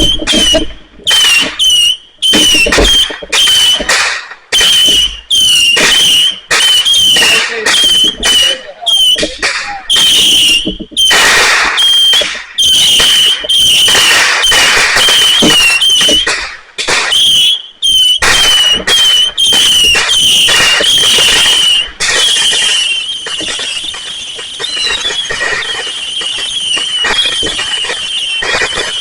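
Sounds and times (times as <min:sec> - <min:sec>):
fireworks blasts: 0:00.0 - 0:29.0
fireworks crackling: 0:00.0 - 0:29.0
high wavering whistle: 0:00.0 - 0:29.0.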